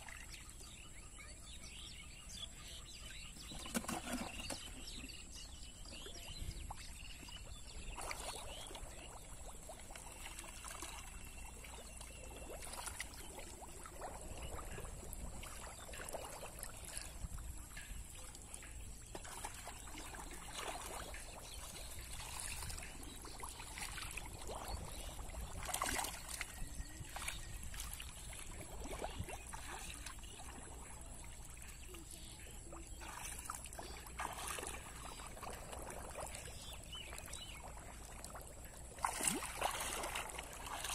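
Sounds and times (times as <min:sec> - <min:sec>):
water trickling: 0:04.8 - 0:40.9.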